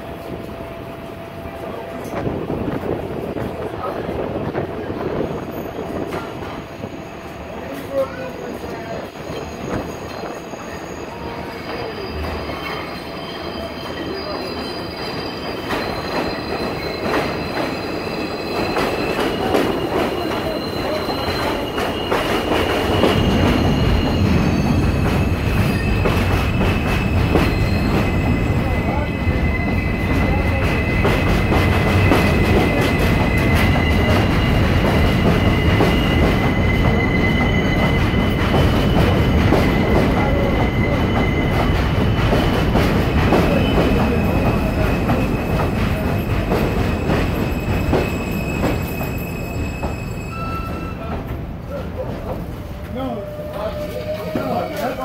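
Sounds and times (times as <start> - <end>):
train rumble: 0.0 - 55.0
train wheels squealing: 4.6 - 55.0.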